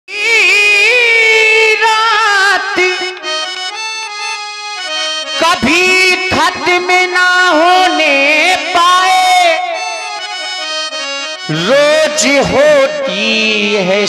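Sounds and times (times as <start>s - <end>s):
harmonium: 0.1s - 14.0s.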